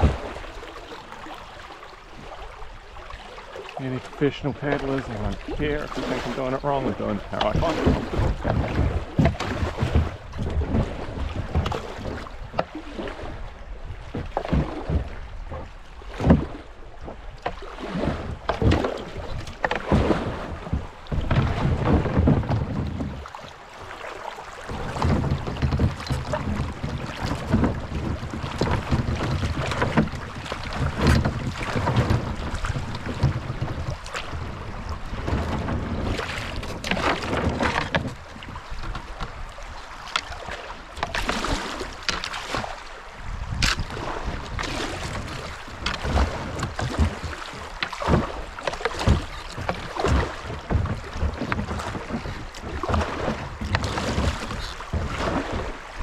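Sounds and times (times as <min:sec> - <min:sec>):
wind rumbling on microphone: 0:00.0 - 0:01.2, 0:03.8 - 0:24.0, 0:24.6 - 0:56.0
paddle splashes and knocks: 0:00.0 - 0:56.0
running water: 0:00.0 - 0:56.0.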